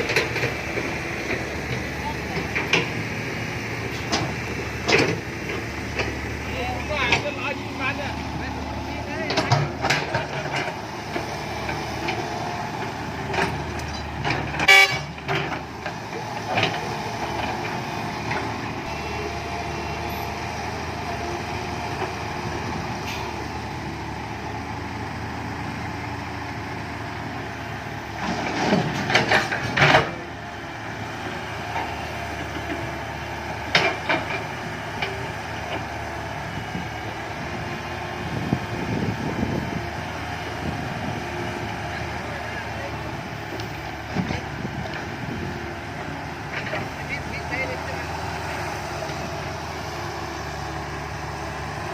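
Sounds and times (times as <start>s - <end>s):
dump truck engine running: 0.0s - 51.9s.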